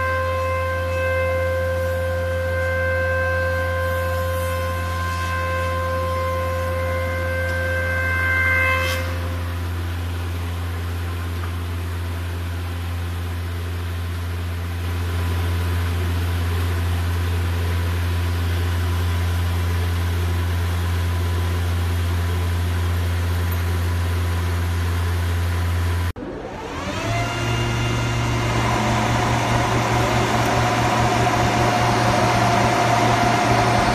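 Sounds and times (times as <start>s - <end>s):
high whine: 0.0s - 33.9s
wood planer running: 0.0s - 33.9s.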